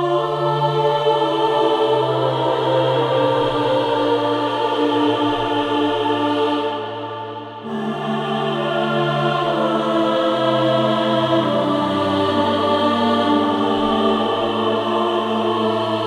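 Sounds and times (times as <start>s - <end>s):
female choir singing sustained chords: 0.0s - 16.0s.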